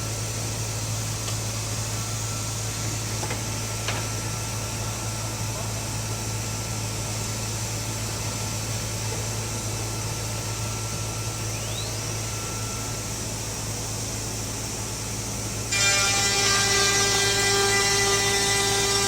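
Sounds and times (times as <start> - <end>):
wood router humming and hissing: 0.0 - 19.0.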